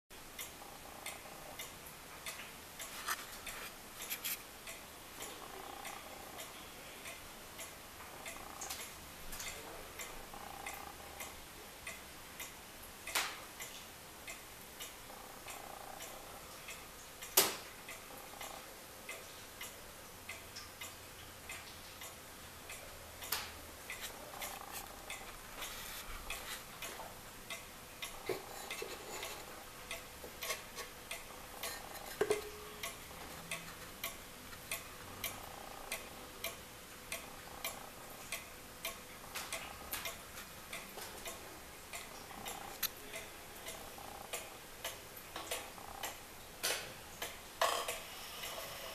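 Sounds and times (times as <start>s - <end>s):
wall clock ticking: 0.2s - 48.9s
clock clicks: 0.3s - 48.9s.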